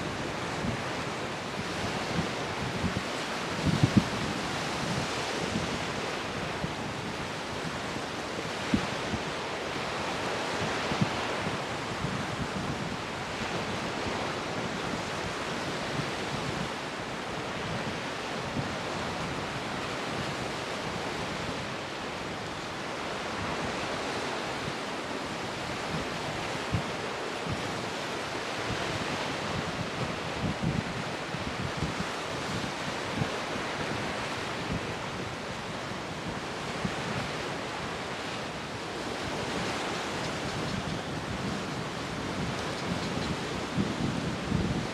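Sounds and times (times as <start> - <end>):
wind buffeting microphone: 0.0 - 16.8, 25.6 - 44.9
rough surf: 0.0 - 44.9
strong wind: 0.0 - 44.9.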